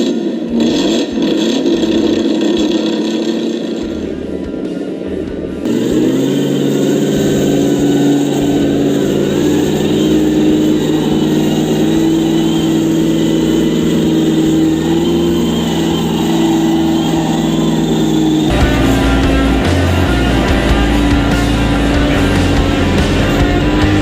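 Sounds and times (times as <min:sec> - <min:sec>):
simulated engine sound: 0:00.0 - 0:24.0.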